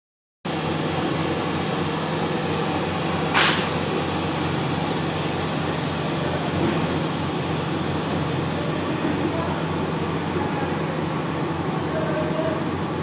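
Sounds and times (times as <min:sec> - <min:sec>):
machine fan-like noise: 0:00.5 - 0:13.0.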